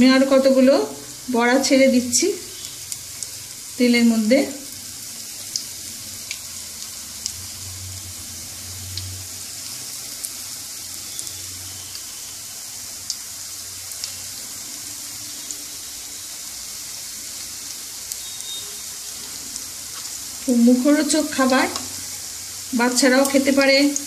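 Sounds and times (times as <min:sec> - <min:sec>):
oil sizzling with pops: 0:00.0 - 0:24.0.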